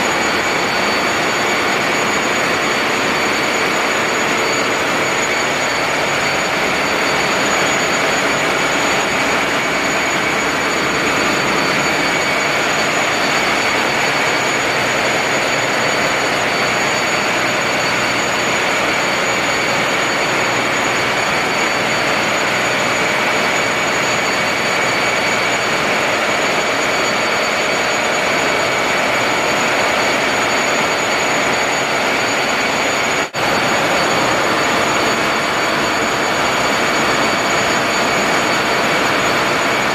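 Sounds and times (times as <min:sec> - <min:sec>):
engine room machinery din: 0:00.0 - 0:39.9
high-pitched whine: 0:00.0 - 0:39.9.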